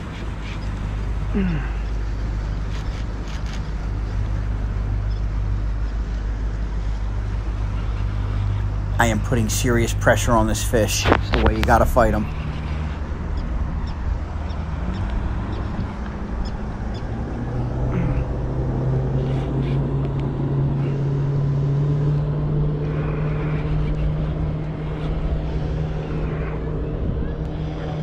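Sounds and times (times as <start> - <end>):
boat motor humming: 0.0 - 28.0
wind: 0.0 - 28.0.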